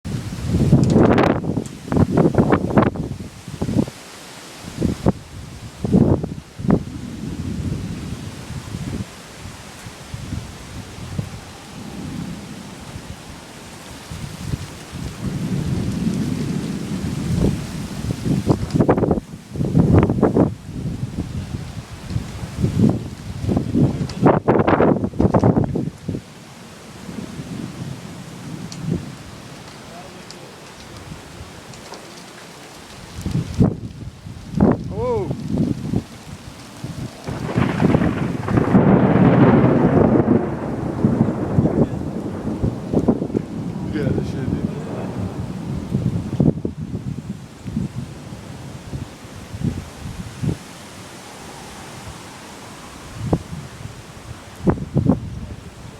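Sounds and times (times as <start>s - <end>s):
thunder rumbling: 0.0s - 4.0s, 4.7s - 55.9s
rain hissing: 0.0s - 55.9s.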